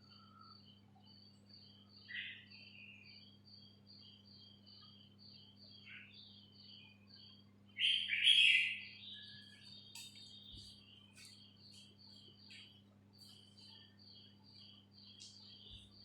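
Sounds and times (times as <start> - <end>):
faint electrical hum: 0.0 - 16.0
small birds chirping: 0.0 - 16.0.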